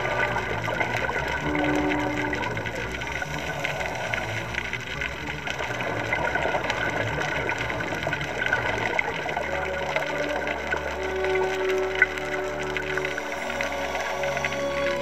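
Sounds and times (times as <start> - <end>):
faint hum: 0.0 - 15.0
steady low tone: 0.0 - 15.0
underwater hiss with crackling: 0.0 - 15.0.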